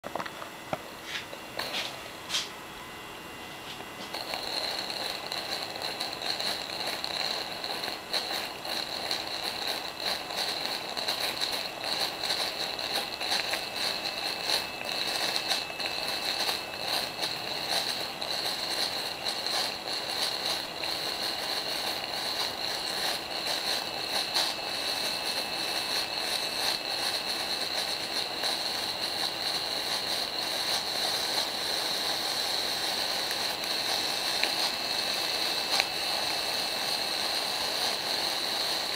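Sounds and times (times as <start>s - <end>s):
smoke generator whirring: 0.0s - 38.9s.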